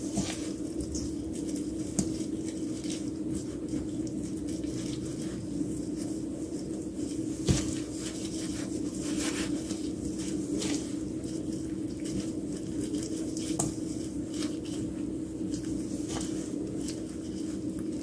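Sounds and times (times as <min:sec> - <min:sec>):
wet squishing of food mixing: 0:00.0 - 0:18.0.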